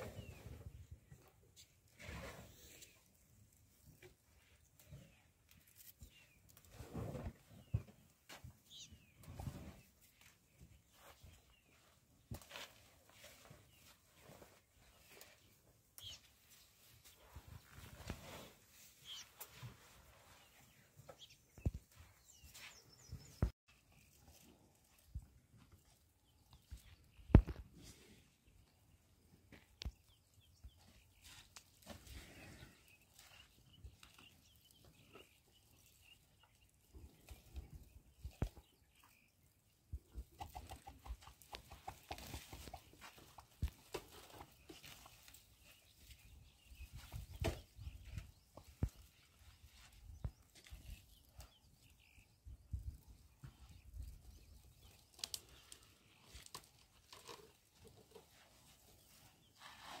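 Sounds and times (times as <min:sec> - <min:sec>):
faint bush ambience: 0:00.0 - 1:00.0.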